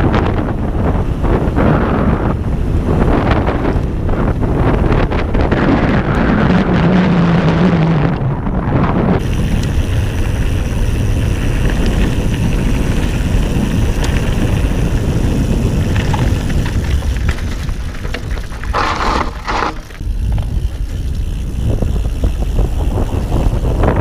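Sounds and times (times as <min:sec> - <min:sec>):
bike tyres rolling on gravel: 0:00.0 - 0:24.0
wind buffeting microphone: 0:00.0 - 0:24.0.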